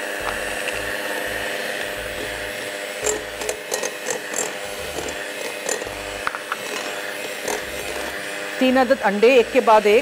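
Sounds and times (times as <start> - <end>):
electric mixer running: 0.0 - 10.0.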